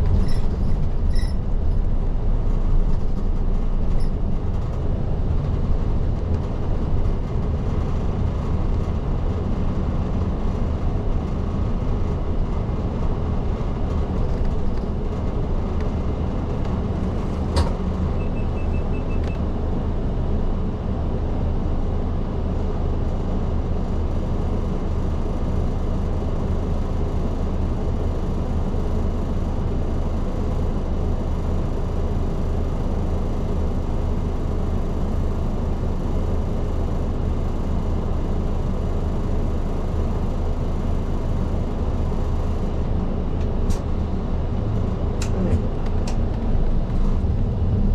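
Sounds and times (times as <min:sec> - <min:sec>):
bus engine and road noise drone: 0:00.0 - 0:47.9.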